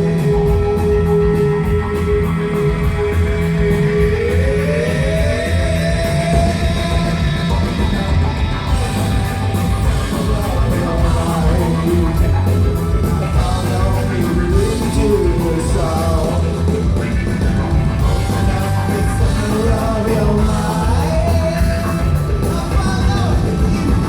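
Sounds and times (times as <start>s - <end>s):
bass guitar: 0.0s - 24.0s
distorted guitars: 0.0s - 24.0s
drums: 0.0s - 24.0s
person singing: 0.0s - 24.0s.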